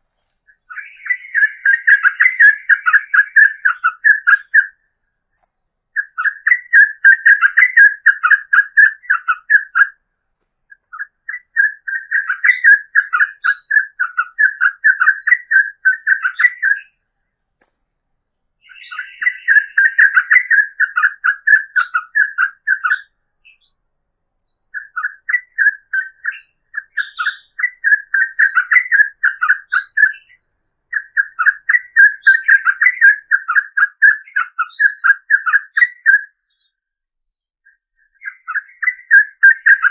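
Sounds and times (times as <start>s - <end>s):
bird singing chattering notes: 0.0s - 5.0s, 6.0s - 10.0s, 10.7s - 17.0s, 18.6s - 23.8s, 24.4s - 36.8s, 37.6s - 39.9s.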